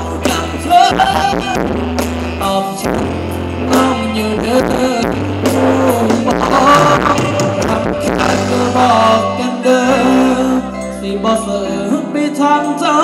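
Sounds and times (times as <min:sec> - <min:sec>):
drums steady beat: 0:00.0 - 0:10.6
bass: 0:00.0 - 0:13.0
person singing: 0:00.0 - 0:13.0.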